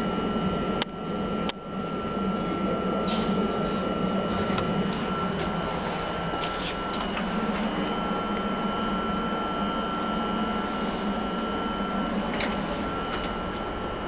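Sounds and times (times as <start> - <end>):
lift doors sliding whine: 0.0 - 14.0
lift electrical hum: 0.0 - 14.0.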